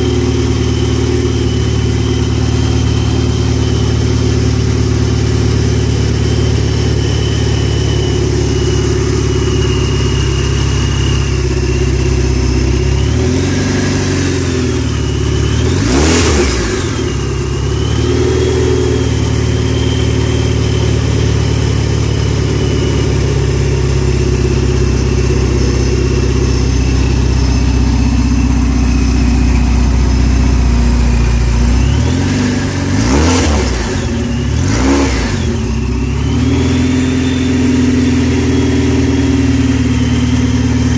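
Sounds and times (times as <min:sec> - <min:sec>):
car engine idling and revving: 0:00.0 - 0:40.9
supercharger whine: 0:00.0 - 0:40.9.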